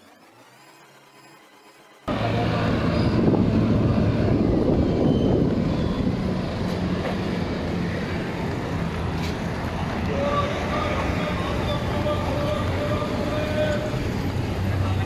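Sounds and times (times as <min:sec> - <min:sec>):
low engine drone: 0:00.0 - 0:15.0
road noise: 0:00.0 - 0:15.0.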